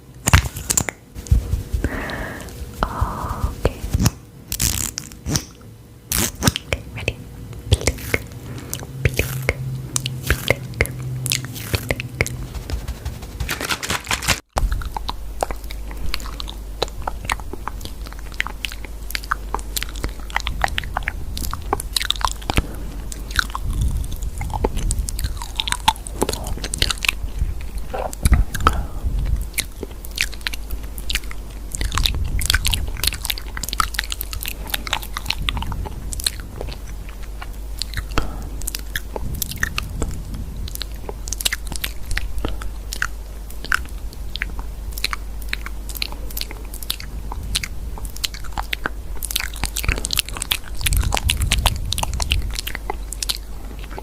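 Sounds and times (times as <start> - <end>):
steady low hum: 0.0 - 54.0
crunchy biting and chewing: 0.2 - 54.0.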